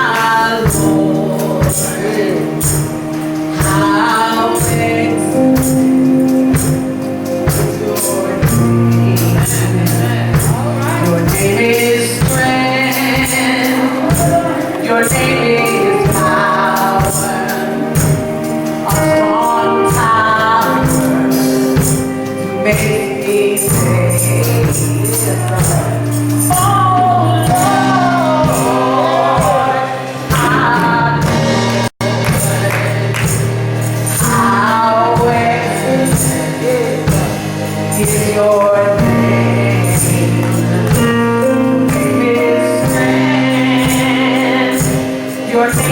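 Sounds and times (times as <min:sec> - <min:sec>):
bass line: 0:00.0 - 0:45.9
gospel choir singing: 0:00.0 - 0:45.9
percussion beat: 0:00.0 - 0:45.9.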